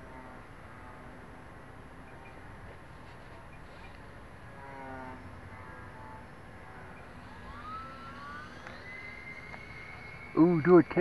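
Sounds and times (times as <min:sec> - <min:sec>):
model plane motor whining: 0:00.0 - 0:11.0.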